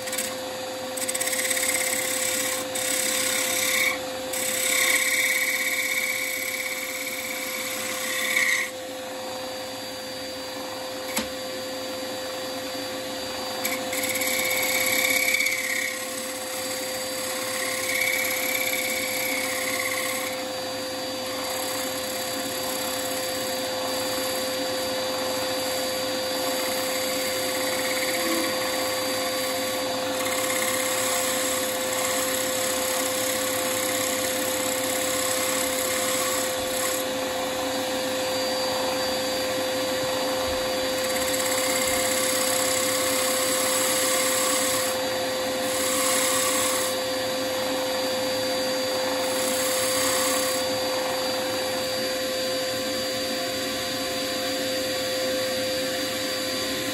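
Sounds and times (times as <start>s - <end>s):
tool hissing on spinning wood: 0.0s - 56.9s
wood lathe motor hum: 0.0s - 56.9s.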